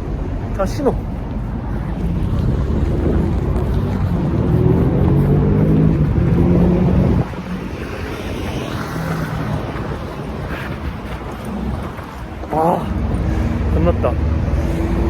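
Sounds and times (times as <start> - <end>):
steady traffic noise: 0.0 - 15.0
wind on microphone: 0.0 - 15.0
vehicle engine accelerating: 1.5 - 10.4, 11.4 - 15.0.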